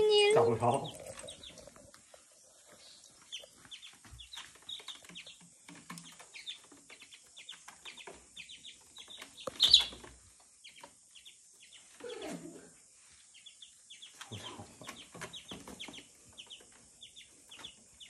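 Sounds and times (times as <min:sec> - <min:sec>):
chick peeping: 0:02.5 - 0:12.2, 0:12.8 - 0:18.0.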